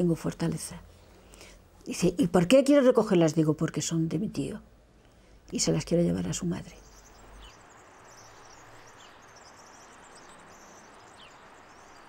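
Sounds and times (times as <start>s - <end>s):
soft steady hiss: 0.0s - 12.0s.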